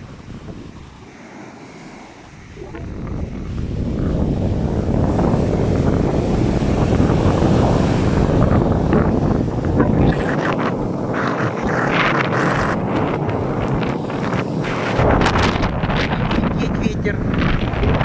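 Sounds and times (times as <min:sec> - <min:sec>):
rough surf: 0:00.0 - 0:18.0
wind buffeting microphone: 0:00.0 - 0:18.0.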